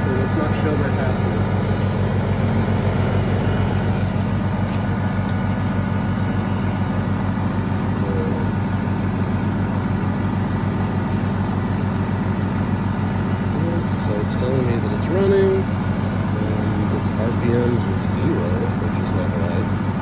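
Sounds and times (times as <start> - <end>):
portable generator running: 0.0 - 20.0.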